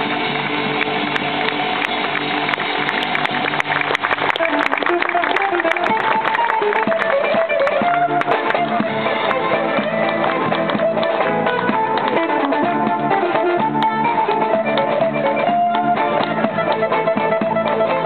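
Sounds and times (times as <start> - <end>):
plucked string instrument music: 0.0 - 18.0.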